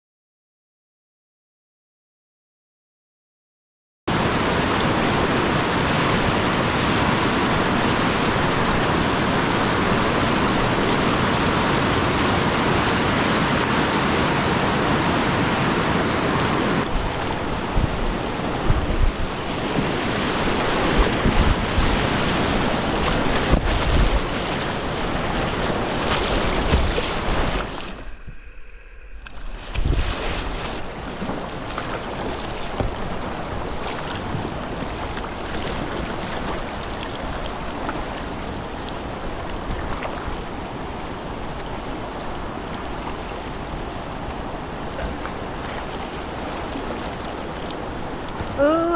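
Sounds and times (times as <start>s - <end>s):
rushing whitewater: 4.1s - 28.3s, 29.4s - 48.9s
wind gusting on microphone: 4.1s - 48.6s.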